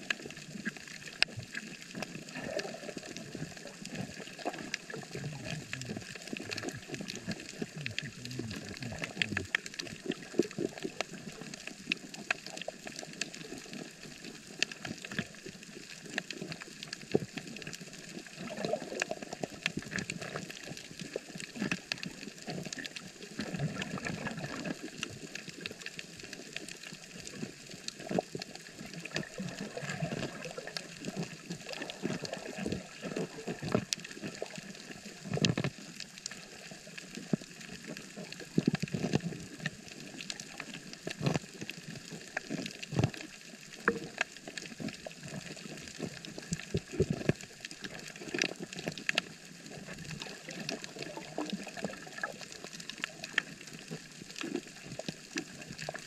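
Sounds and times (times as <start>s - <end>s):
muffled water rushes: 0.0s - 56.0s
reef clicks and crackles: 0.0s - 56.0s
underwater water noise: 0.0s - 56.0s.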